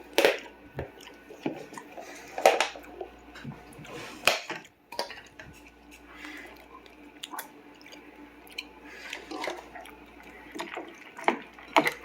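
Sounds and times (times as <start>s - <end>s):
soft wet chewing: 0.0s - 12.0s.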